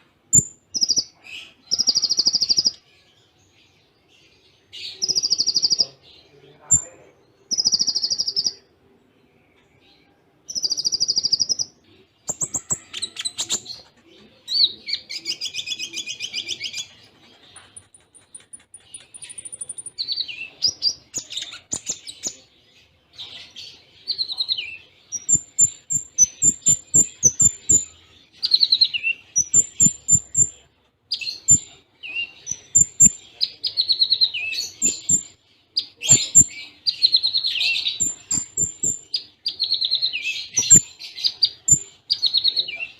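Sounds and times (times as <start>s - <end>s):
bird singing chirps and trills: 0.0s - 42.9s.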